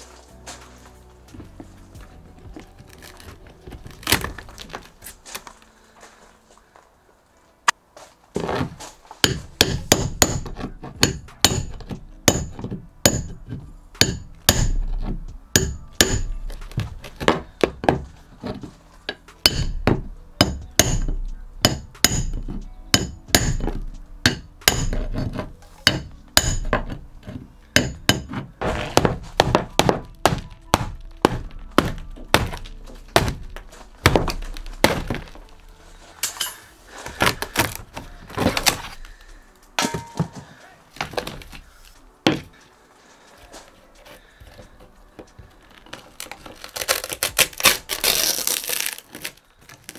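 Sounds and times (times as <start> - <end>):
rotten wood crunching and scraping: 0.0 - 49.9.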